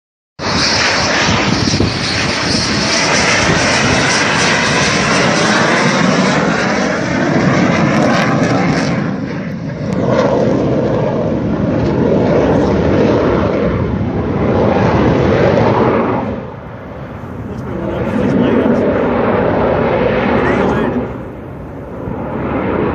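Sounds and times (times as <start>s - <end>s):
fighter jets passing overhead: 0.4s - 22.9s.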